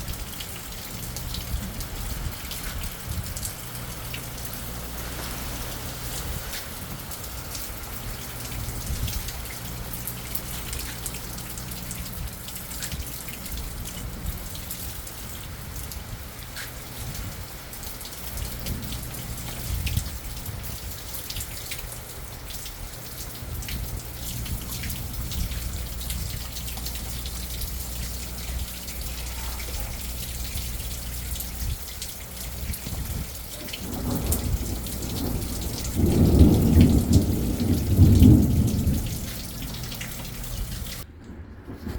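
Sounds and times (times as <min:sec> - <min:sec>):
drops clicking and dripping: 0:00.0 - 0:41.1
low rumble of thunder: 0:00.0 - 0:41.9
steady rain falling: 0:00.0 - 0:41.9.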